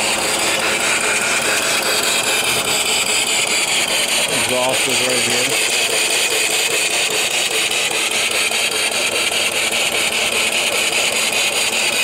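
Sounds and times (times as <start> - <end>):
exhaust pipe puffing: 0.0 - 12.0
steam engine running: 0.0 - 12.0.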